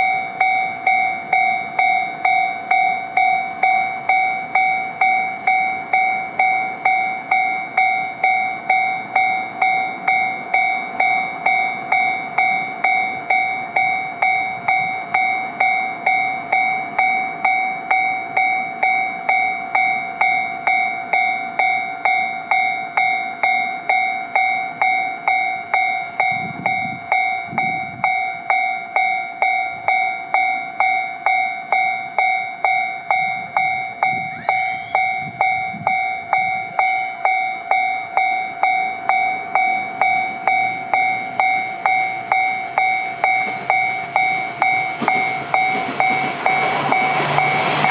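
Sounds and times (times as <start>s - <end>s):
level-crossing warning bell: 0.0s - 47.9s.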